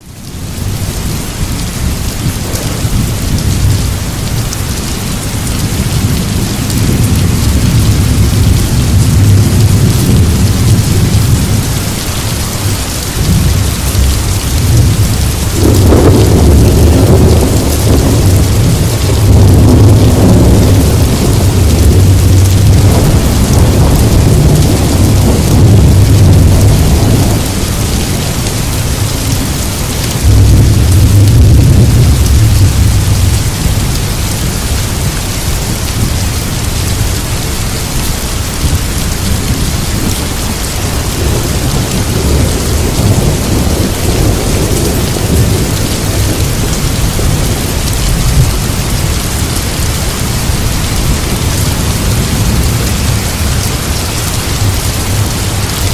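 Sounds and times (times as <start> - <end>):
heavy rain hissing: 0.1 - 55.9
rolling thunder rumble: 0.3 - 55.9.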